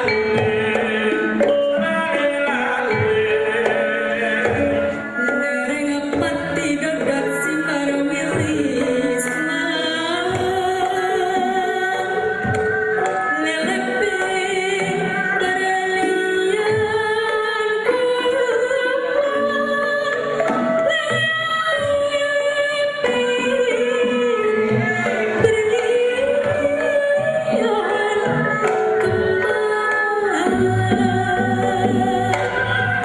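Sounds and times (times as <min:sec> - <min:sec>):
bowed fiddle: 0:00.0 - 0:33.0.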